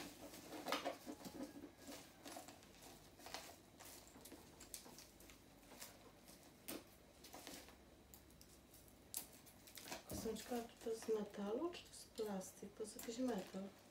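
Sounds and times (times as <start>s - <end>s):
plastic wrapping rustling: 0.0s - 13.9s.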